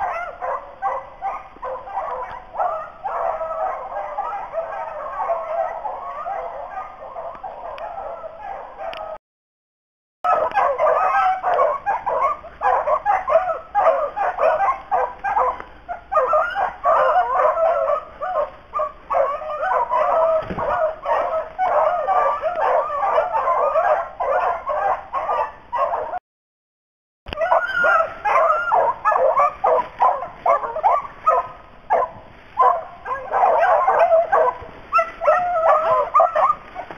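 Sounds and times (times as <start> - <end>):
hounds baying in chorus: 0.0 - 9.2, 10.2 - 26.2, 27.3 - 36.9.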